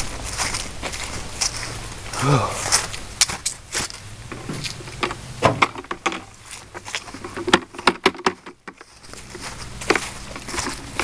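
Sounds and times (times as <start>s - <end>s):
footsteps on grass: 0.0s - 11.0s.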